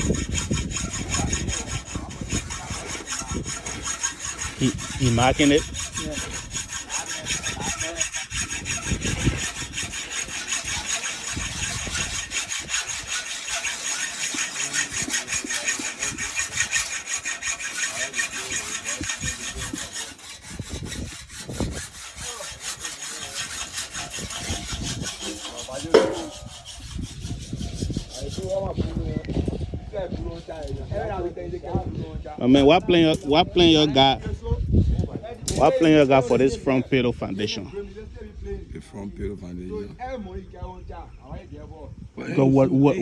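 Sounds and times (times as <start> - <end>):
hand saw rasping: 0.0 - 29.7, 32.4 - 37.6.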